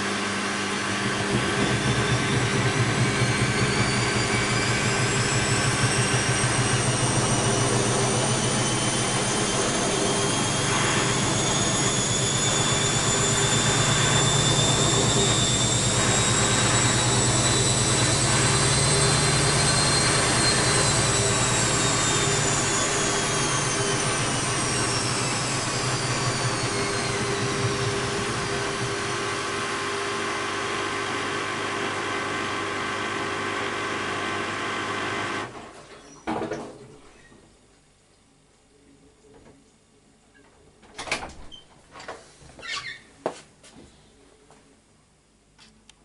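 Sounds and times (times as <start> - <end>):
washing machine motor whine: 0.0 - 37.4.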